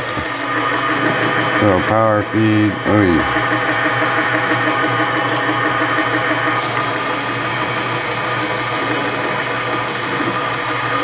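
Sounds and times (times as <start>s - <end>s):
lathe motor whine: 0.0s - 11.0s.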